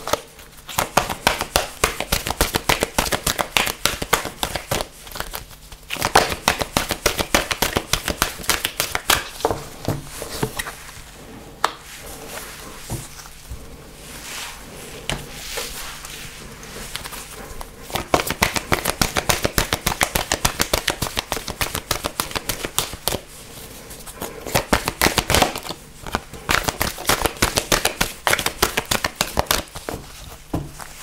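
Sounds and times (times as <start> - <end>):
cards being shuffled: 0.0 - 11.1, 11.7 - 23.3, 23.9 - 31.0.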